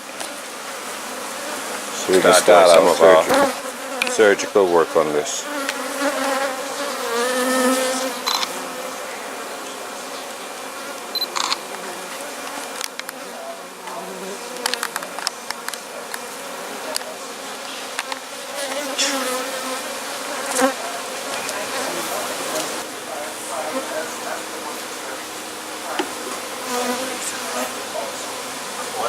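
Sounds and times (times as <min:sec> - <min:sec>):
honeybees buzzing: 0:00.0 - 0:29.0.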